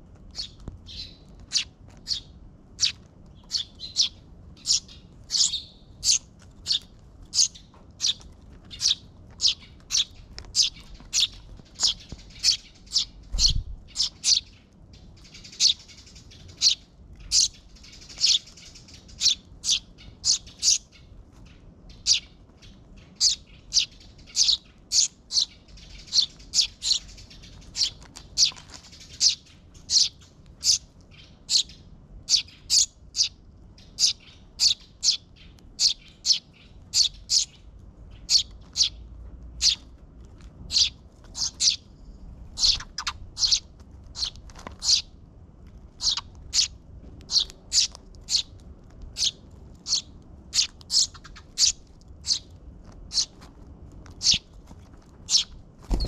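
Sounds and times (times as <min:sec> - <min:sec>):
sparrows chirping: 0:00.0 - 0:40.0, 0:40.6 - 0:45.2, 0:45.9 - 0:53.5, 0:54.1 - 0:56.0.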